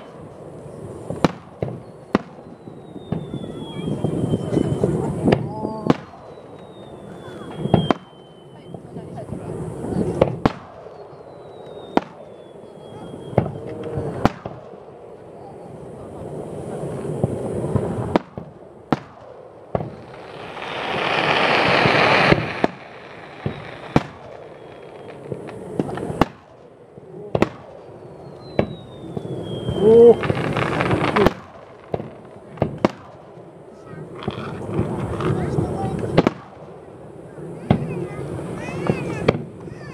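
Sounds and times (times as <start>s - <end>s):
firework shells booming: 0.0s - 15.4s, 16.8s - 39.9s.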